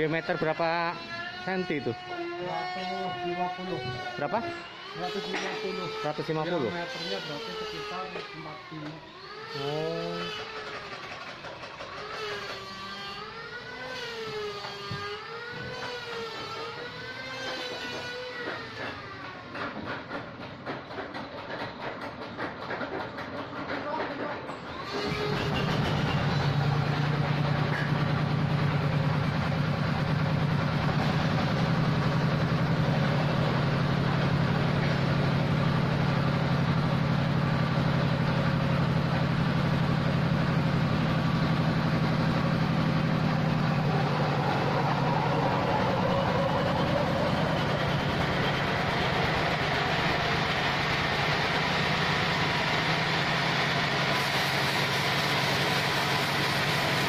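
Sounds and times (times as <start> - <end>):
bandsaw mill running: 0.0 - 57.0.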